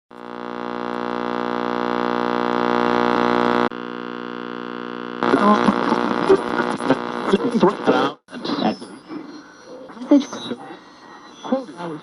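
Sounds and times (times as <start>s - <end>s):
electrical hum: 0.1s - 12.0s.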